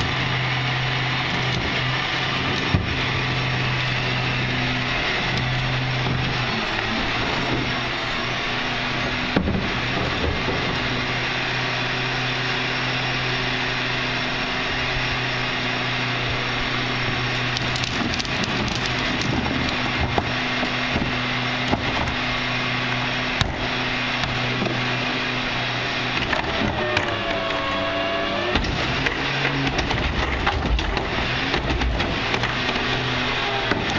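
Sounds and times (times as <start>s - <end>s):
garbage truck engine hum: 0.0s - 33.9s.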